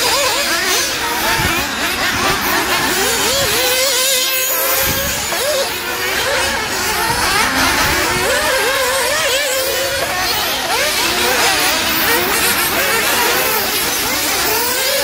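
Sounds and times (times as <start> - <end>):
small engines revving high-pitched: 0.0 - 15.0.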